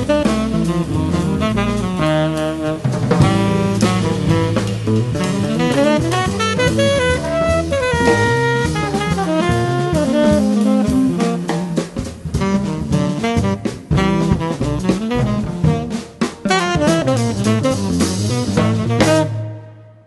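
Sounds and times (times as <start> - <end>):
drum kit with cymbals: 0.0 - 19.8
tenor saxophone jazz melody: 0.0 - 20.0.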